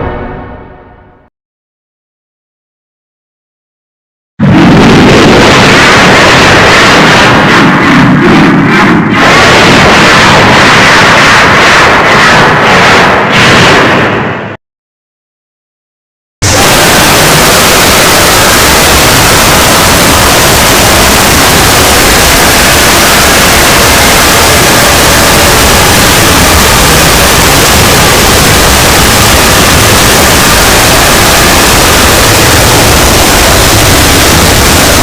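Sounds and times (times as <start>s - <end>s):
loud distorted static noise: 4.4s - 13.9s, 16.4s - 35.0s.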